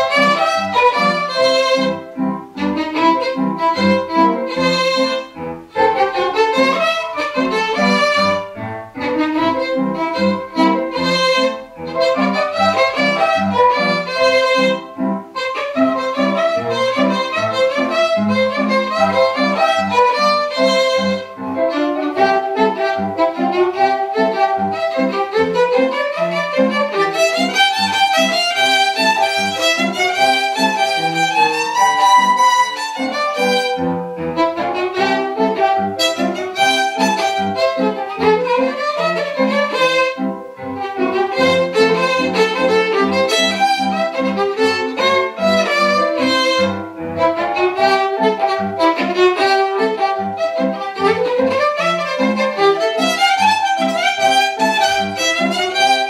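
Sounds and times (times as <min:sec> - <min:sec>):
violin melody: 0:00.0 - 0:56.0.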